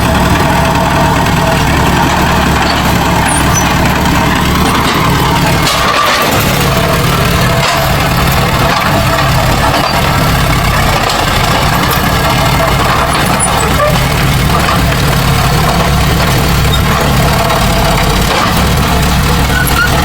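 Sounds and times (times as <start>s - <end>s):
diesel engine low drone: 0.0s - 20.0s.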